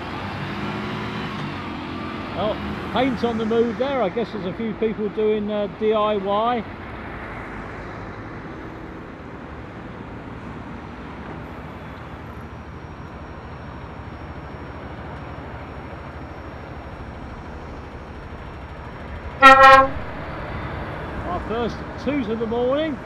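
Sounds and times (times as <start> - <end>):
heavy diesel trucks driving past: 0.0 - 23.0.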